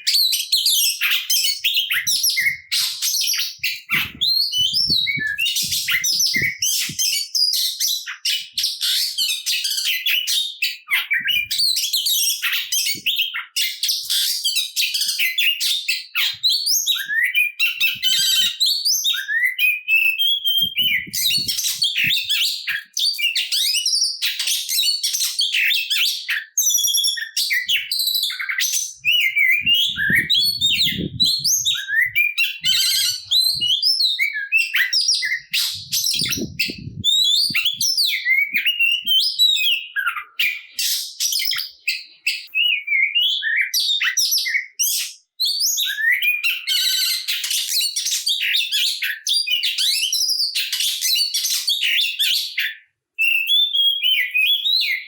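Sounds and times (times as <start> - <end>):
songbird whistles and trills: 0.0 - 55.0.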